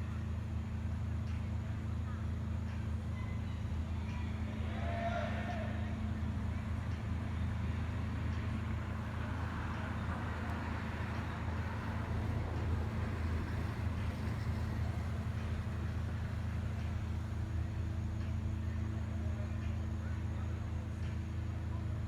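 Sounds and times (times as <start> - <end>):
faint constant hum: 0.0 - 22.0
low background rumble: 0.0 - 22.0.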